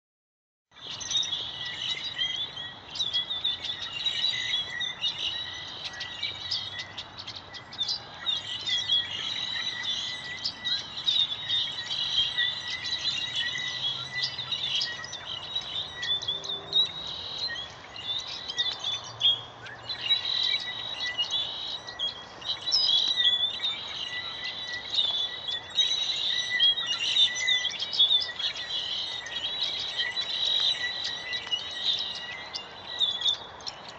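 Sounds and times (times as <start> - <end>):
flock of birds chirping: 0.7 - 33.9.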